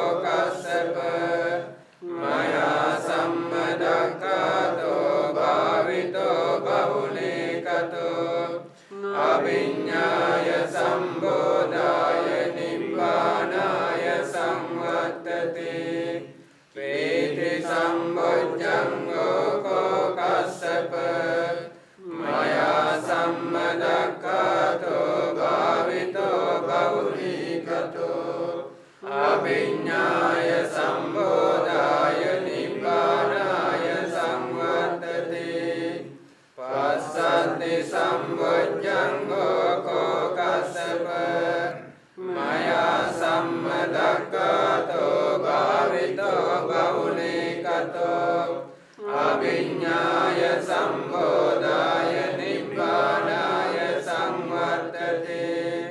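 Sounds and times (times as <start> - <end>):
monks chanting together: 0.0 - 55.9.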